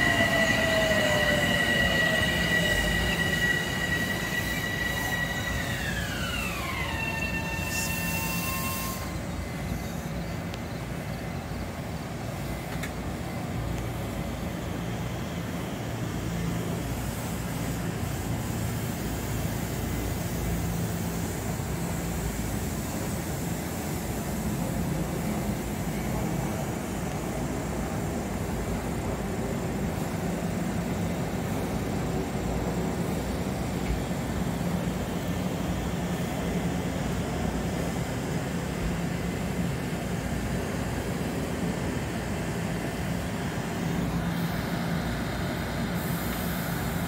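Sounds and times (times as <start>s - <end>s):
electric train rolling past: 0.0s - 47.0s.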